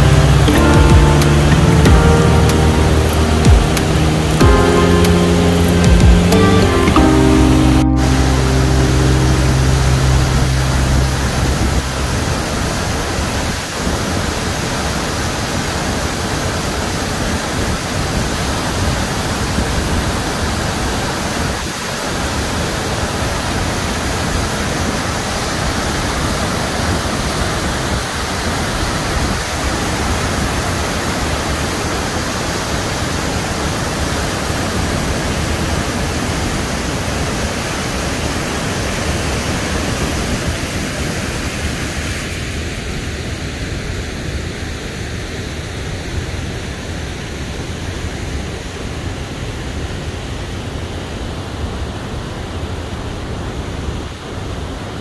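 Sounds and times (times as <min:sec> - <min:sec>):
waterfall roar: 0:00.0 - 0:55.0.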